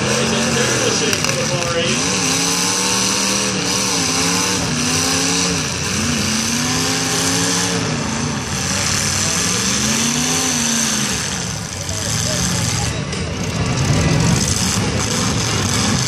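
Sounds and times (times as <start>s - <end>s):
arena noise: 0.0s - 16.0s
car engines revving: 0.0s - 16.0s.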